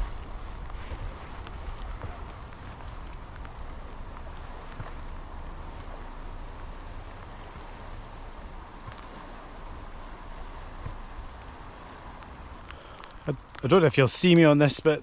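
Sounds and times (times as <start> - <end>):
river rushing: 0.0 - 15.0
wind rumbling on microphone: 0.0 - 15.0.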